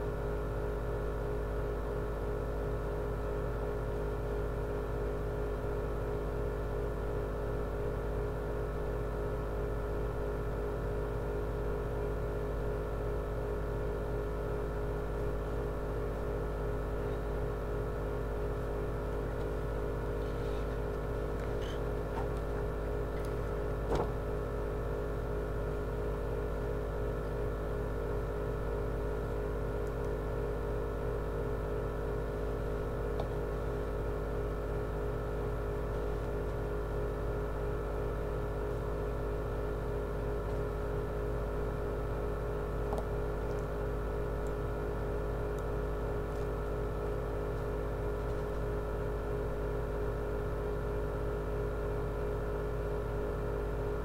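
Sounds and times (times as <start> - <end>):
steady multi-tone hum: 0.0 - 54.0.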